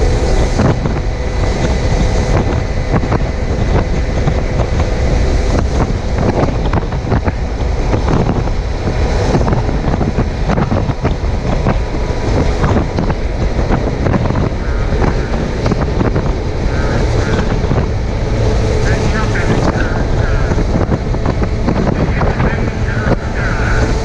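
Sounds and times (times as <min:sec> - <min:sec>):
road and tyre noise: 0:00.0 - 0:24.0
wind buffeting microphone: 0:00.0 - 0:24.0.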